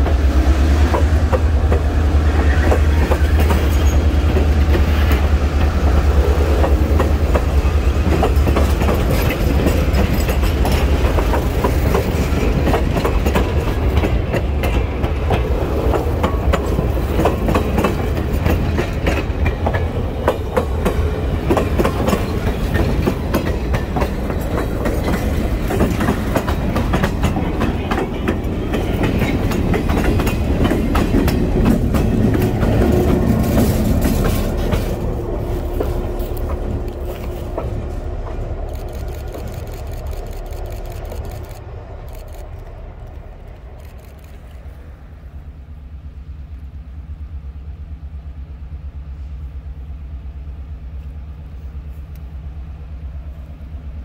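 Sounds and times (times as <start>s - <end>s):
train wheels clicking over rail joints: 0.0s - 44.8s.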